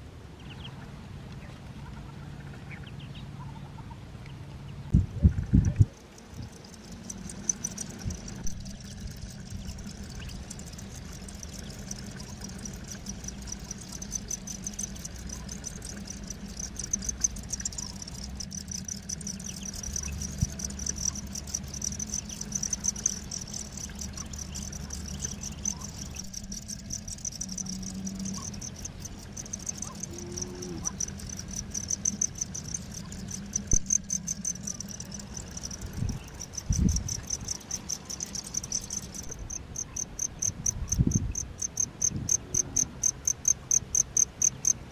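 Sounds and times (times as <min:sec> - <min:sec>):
low steady hum: 0:00.0 - 0:44.9
crickets chirping: 0:05.2 - 0:44.9.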